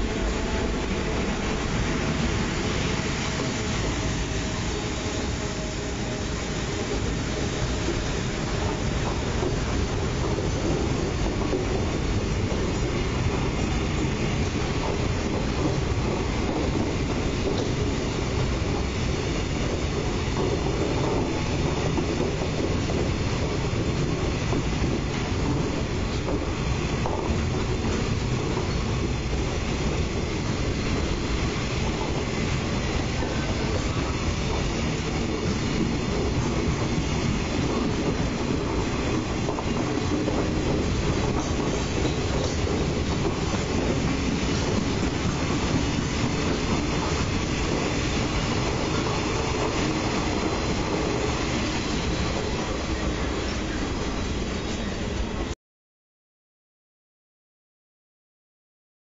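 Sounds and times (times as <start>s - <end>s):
freight train wheels rolling on rails: 0.0s - 55.5s.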